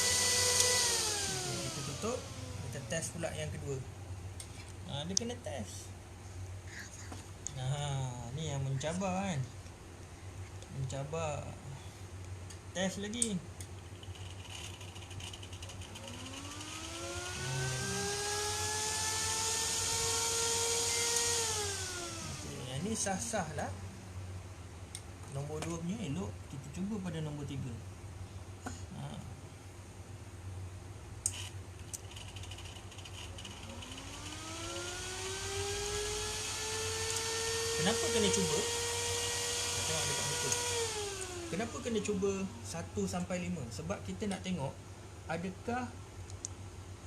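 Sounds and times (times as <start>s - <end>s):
cooling fan whine: 0.0s - 47.0s
steady low hum: 0.0s - 47.0s.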